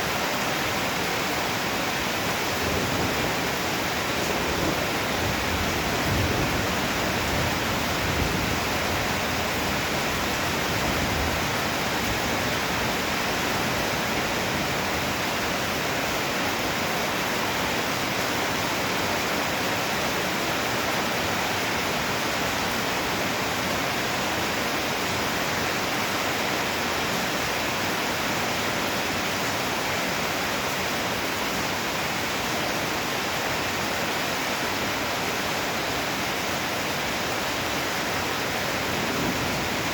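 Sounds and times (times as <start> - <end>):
pouring rain hiss: 0.0 - 39.9.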